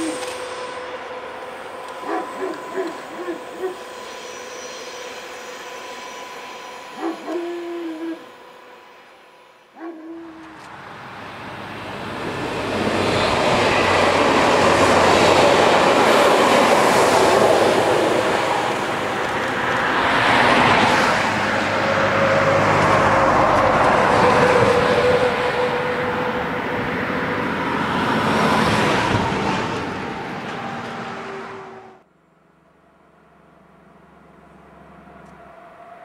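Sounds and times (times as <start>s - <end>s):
train wheels on rails: 0.0s - 31.9s
diesel locomotive engine: 0.0s - 36.0s.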